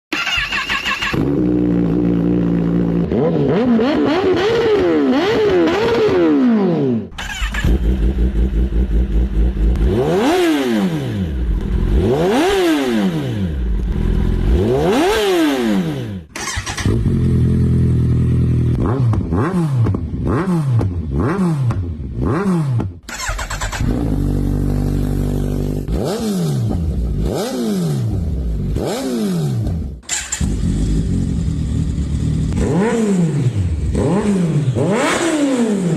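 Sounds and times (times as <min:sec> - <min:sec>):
motorcycle exhausts revving: 0:00.2 - 0:35.9.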